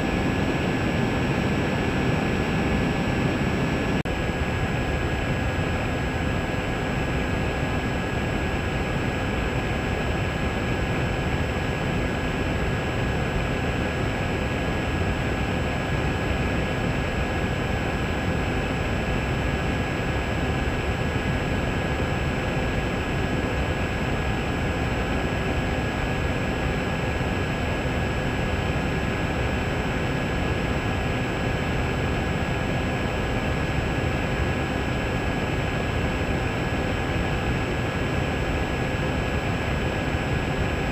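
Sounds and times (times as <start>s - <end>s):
drone motors and propellers humming: 0.0s - 40.9s.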